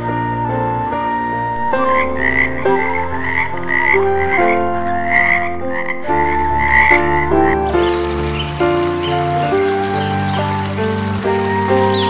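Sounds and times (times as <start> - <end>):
instrumental background music: 0.0 - 12.0
frogs croaking: 1.5 - 12.0.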